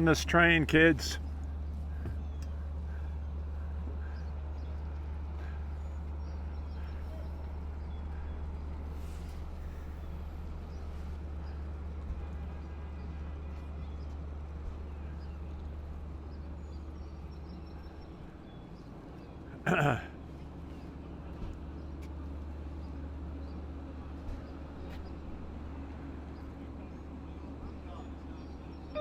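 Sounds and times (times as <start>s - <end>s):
diesel locomotive idling: 0.0s - 29.0s.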